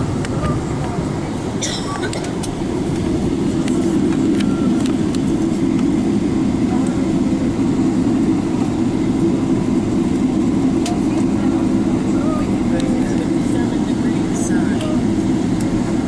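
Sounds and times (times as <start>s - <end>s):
aircraft cabin roar and rumble: 0.0s - 16.0s.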